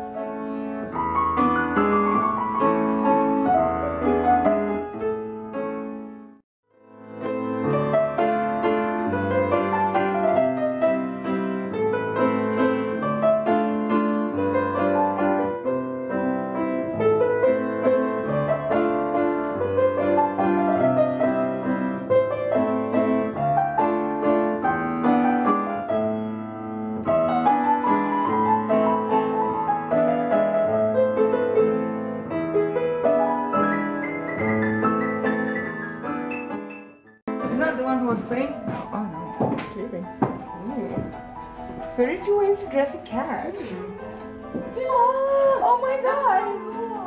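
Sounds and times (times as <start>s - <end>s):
slow melodic piano piece: 0.0s - 47.0s.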